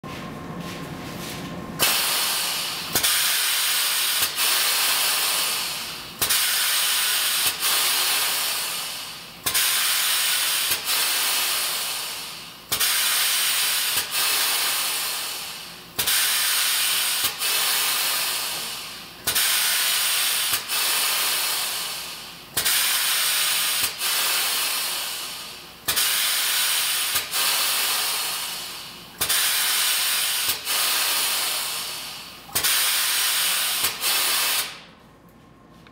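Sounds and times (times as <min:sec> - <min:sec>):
actuator hissing bursts: 0:01.8 - 0:34.9.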